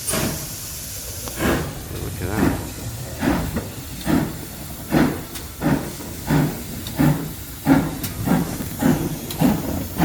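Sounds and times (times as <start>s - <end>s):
steam locomotive chuffing: 0.0s - 10.0s.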